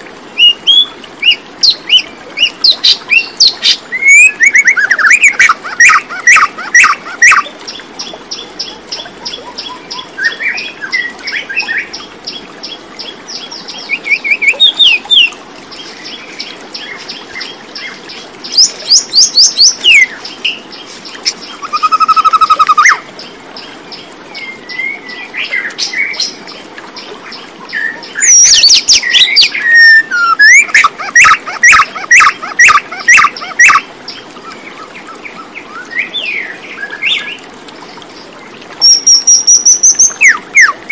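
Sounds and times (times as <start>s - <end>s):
birds chirping and trilling: 0.4s - 37.5s, 38.2s - 40.9s.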